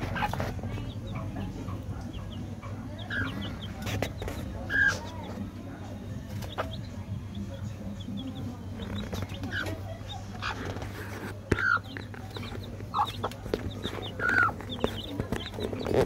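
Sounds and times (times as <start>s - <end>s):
chicks peeping: 0.0s - 16.0s
hen clucking: 0.0s - 16.0s.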